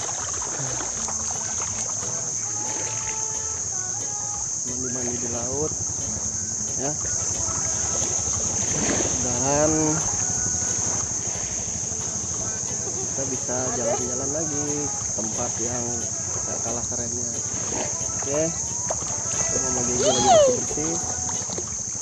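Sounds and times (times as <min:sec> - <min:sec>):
high-pitched insect drone: 0:00.0 - 0:22.0
voices: 0:00.0 - 0:22.0.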